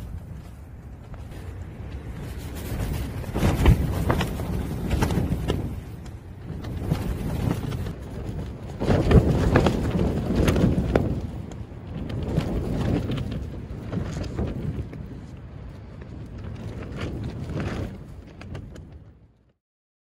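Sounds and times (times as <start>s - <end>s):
tent fabric flapping: 0.0s - 19.5s
wind gusts: 0.0s - 19.5s.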